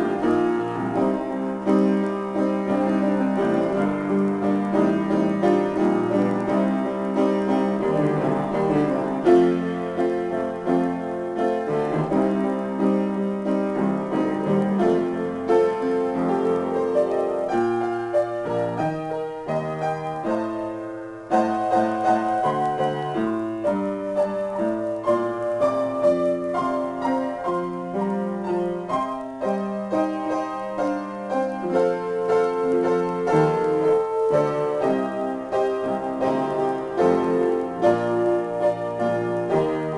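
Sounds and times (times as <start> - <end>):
solo piano playing: 0.0 - 39.9.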